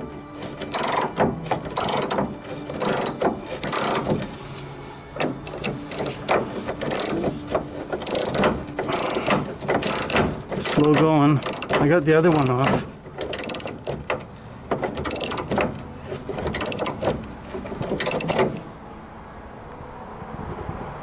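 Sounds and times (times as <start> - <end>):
hand tool clicking and grinding: 0.0 - 4.4, 5.2 - 18.7.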